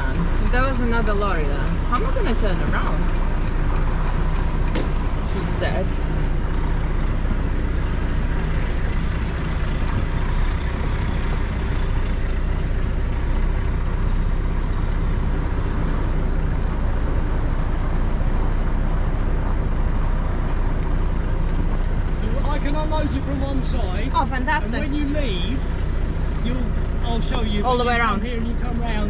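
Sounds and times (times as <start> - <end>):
diesel truck engine rumbling: 0.0 - 29.0.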